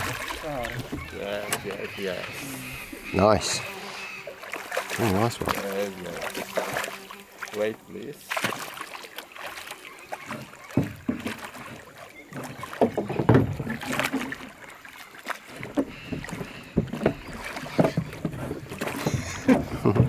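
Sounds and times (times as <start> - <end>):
fish thrashing and splashing water: 0.0 - 20.0.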